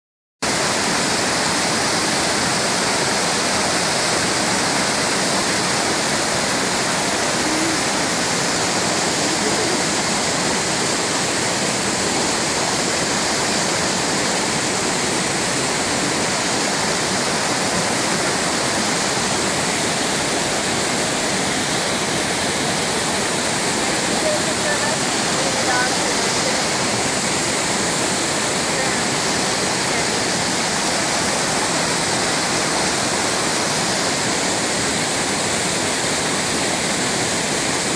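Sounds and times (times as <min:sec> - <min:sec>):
waterfall rushing: 0:00.4 - 0:37.9.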